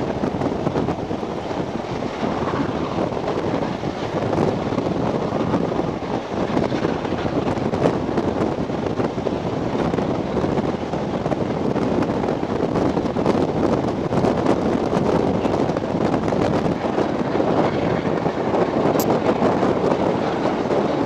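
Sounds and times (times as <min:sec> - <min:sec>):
train running: 0:00.0 - 0:21.0
wind buffeting microphone: 0:00.0 - 0:21.0.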